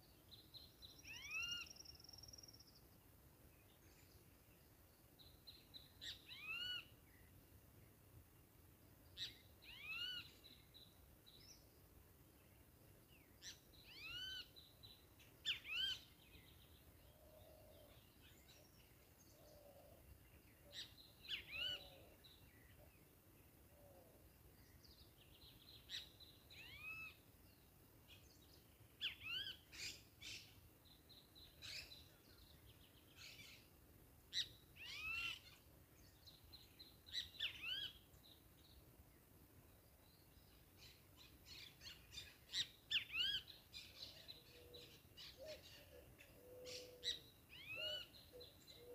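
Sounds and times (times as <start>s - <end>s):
lower soft bird calls: 0.0s - 48.9s.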